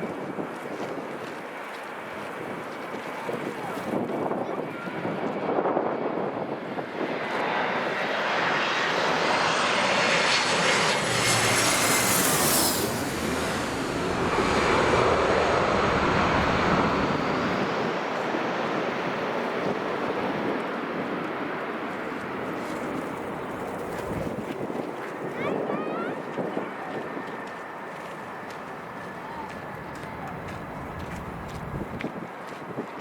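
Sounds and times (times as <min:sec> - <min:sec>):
wind noise on microphone: 0:00.0 - 0:01.5, 0:02.2 - 0:28.5, 0:29.2 - 0:33.0
airliner passing by: 0:00.0 - 0:33.0.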